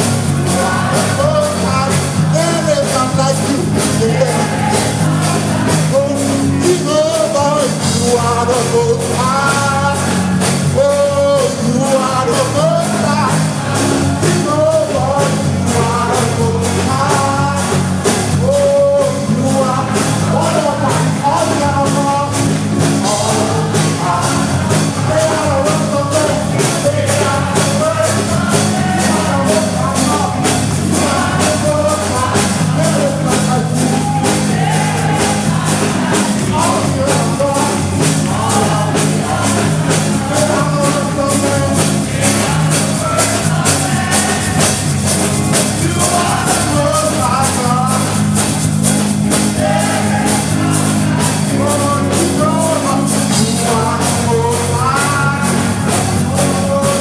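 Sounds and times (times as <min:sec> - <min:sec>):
bass: 0:00.0 - 0:57.0
congregation singing: 0:00.0 - 0:57.0
drum kit: 0:00.0 - 0:57.0.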